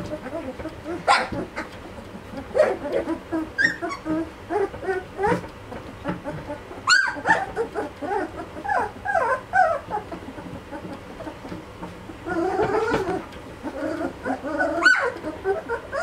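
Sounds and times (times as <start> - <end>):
puppies whining and squeaking: 0.0 - 16.0.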